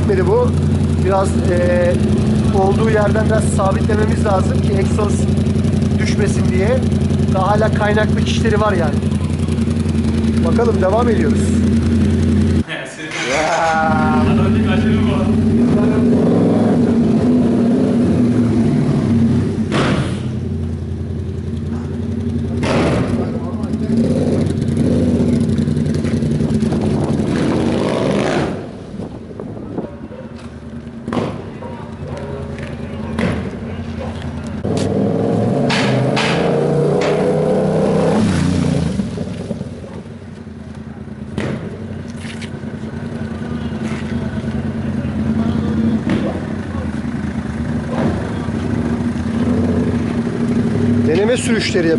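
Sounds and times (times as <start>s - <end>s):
motorcycle engine pulling away: 0.0s - 29.4s, 30.4s - 51.9s.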